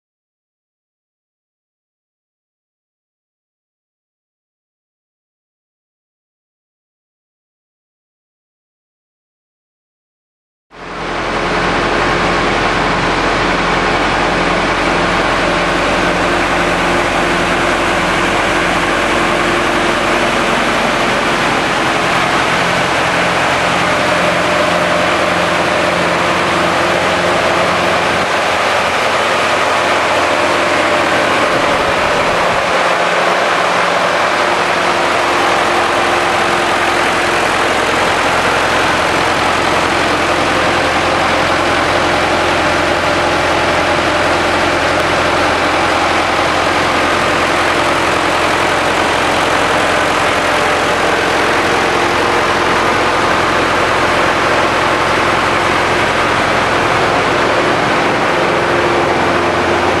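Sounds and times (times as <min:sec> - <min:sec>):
diesel engine running: 0:10.8 - 1:00.0
water pump: 0:10.8 - 1:00.0.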